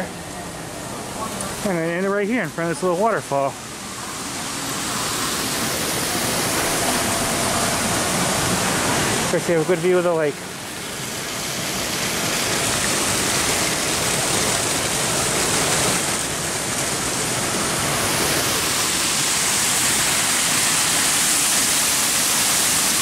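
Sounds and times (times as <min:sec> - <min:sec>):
water splashing over rocks: 0:04.1 - 0:23.0.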